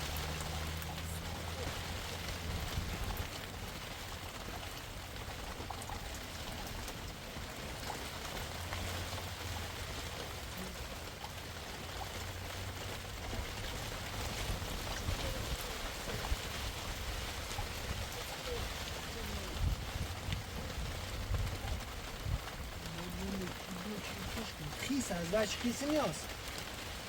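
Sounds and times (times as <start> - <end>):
raindrops ticking: 0.0 - 27.0
steady rain: 0.0 - 27.0.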